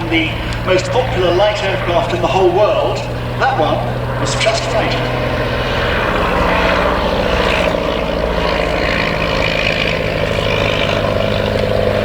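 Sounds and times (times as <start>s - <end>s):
biplane engine and propeller: 0.0s - 12.0s.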